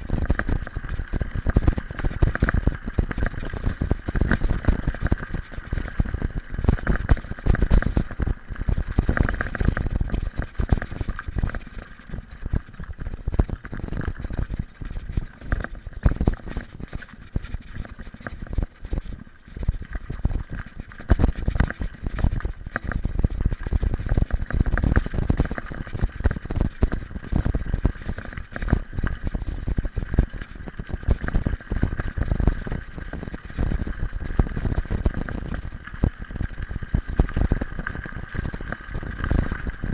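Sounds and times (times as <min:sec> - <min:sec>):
bike rattling: 0:00.0 - 0:39.9
bike tyres rumbling on gravel: 0:00.0 - 0:39.9.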